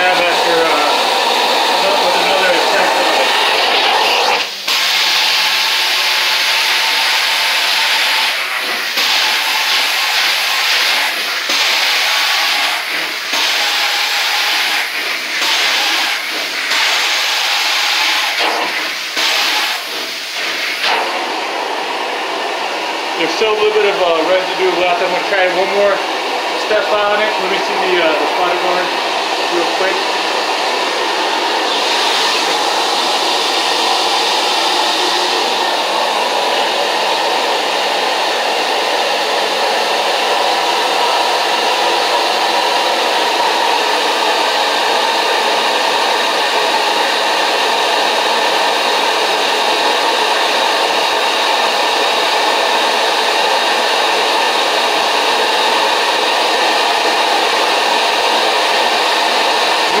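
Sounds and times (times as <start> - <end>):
carpet cleaning machine hissing: 0.0 - 60.0.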